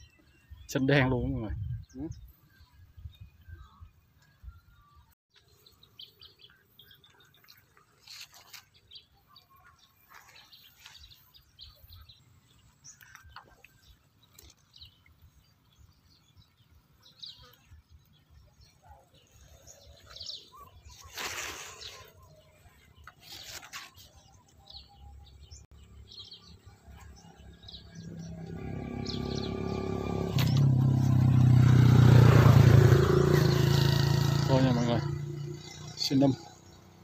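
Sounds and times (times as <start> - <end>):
bird chirps: 0.0 - 37.0.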